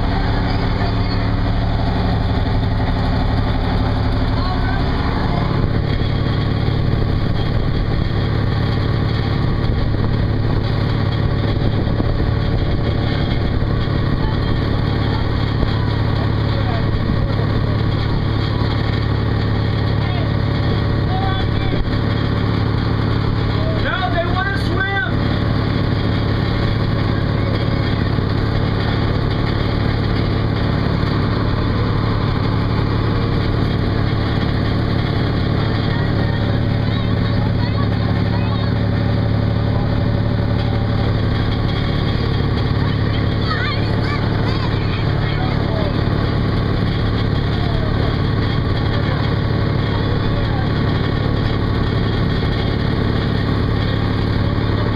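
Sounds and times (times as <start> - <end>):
boat engine running steadily: 0.0 - 54.9
water rushing along hull: 0.0 - 54.9.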